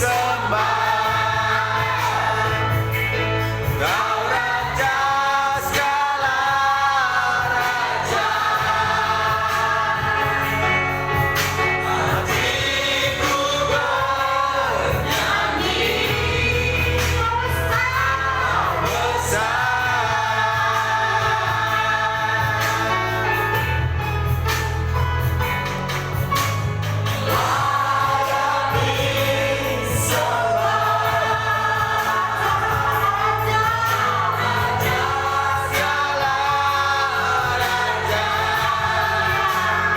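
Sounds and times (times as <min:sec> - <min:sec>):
group singing worship song: 0:00.0 - 0:39.9
steady bass line: 0:00.0 - 0:39.9.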